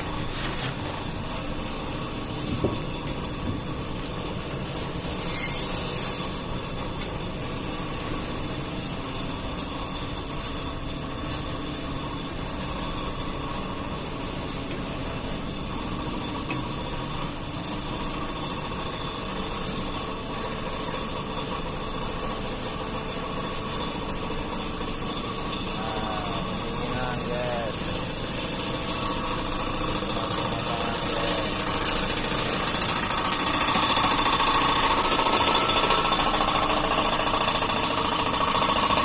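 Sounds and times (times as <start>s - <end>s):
extruder machine hum: 0.0s - 39.0s.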